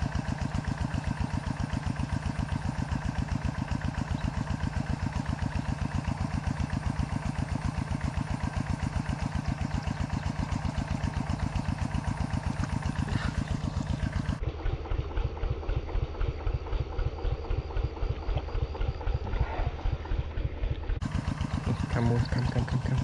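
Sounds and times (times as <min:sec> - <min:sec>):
small engine chugging: 0:00.0 - 0:23.0.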